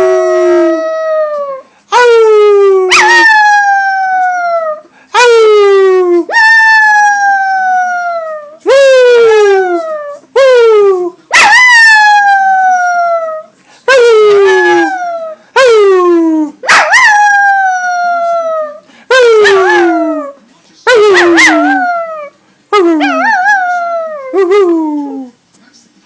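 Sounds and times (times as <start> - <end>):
puppy howling: 0.0 - 5.3, 6.2 - 10.2, 10.9 - 25.3.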